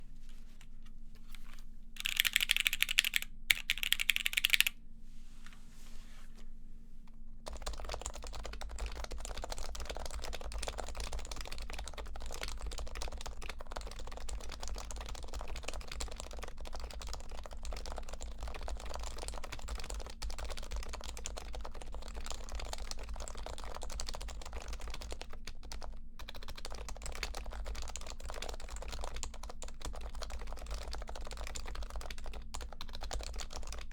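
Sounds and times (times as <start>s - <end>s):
typing on keyboard: 2.0s - 4.7s, 7.5s - 33.9s.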